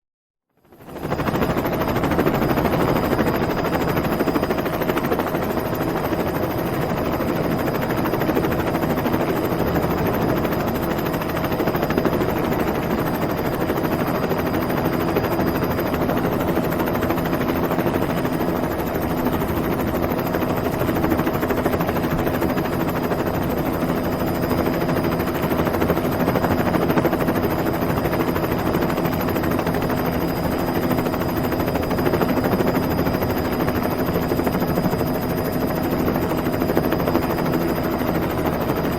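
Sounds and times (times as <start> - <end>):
helicopter whine: 0.6 - 38.9
helicopter rotor chop: 0.8 - 38.9.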